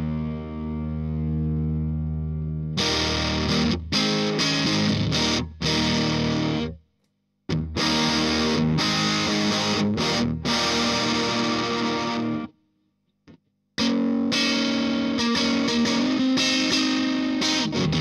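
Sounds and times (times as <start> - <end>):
distorted electric guitar chords: 0.0 - 6.8, 7.5 - 12.5, 13.8 - 18.0.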